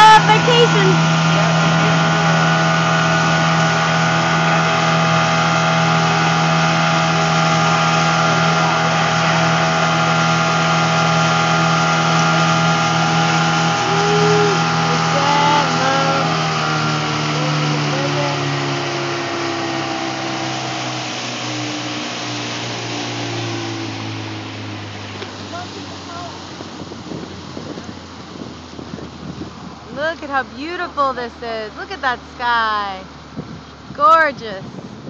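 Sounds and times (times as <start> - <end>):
motorboat engine running: 0.0 - 35.0
water noise: 0.0 - 35.0
wind: 0.0 - 35.0.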